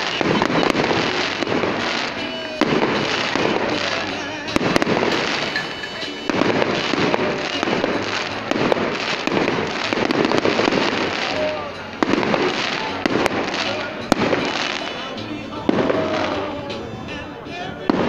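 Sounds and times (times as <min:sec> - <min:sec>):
crowd voices: 0:00.0 - 0:18.0
fireworks bursting and crackling: 0:00.0 - 0:18.0
music: 0:00.0 - 0:18.0.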